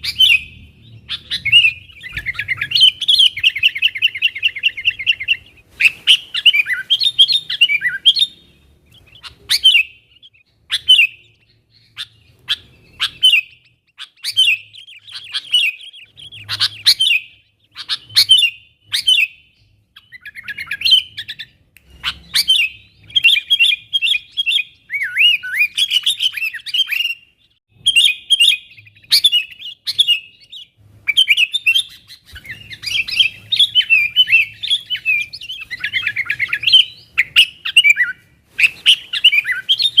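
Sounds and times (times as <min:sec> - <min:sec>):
bulbul singing: 0:00.0 - 0:40.0.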